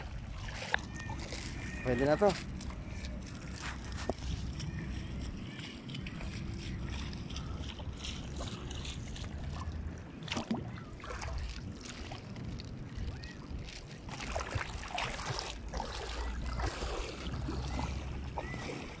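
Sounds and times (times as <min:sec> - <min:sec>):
seawater sloshing and splashing: 0:00.0 - 0:19.0
steady low rumble: 0:02.4 - 0:19.0.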